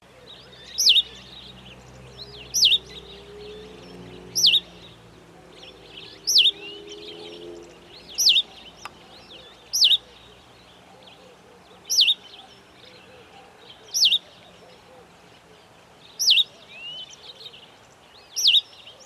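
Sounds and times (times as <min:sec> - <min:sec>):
sparrow chirping: 0:00.0 - 0:19.0.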